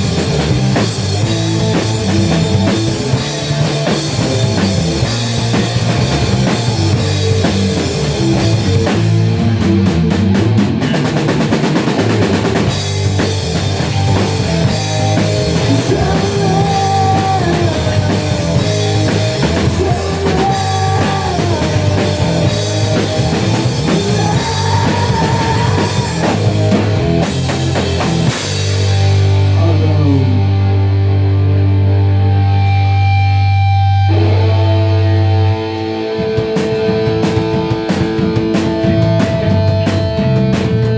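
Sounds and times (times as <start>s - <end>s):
drum kit: 0.0s - 31.1s, 32.2s - 40.9s
rock band playing: 0.0s - 40.9s.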